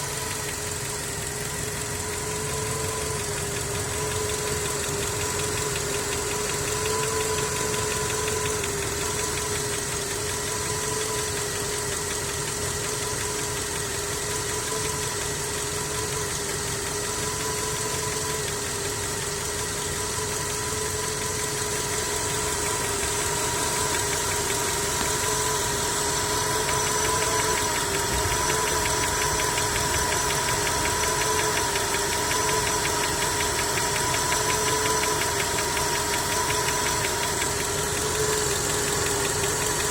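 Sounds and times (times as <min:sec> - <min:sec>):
petrol engine knocking: 0:00.0 - 0:39.9.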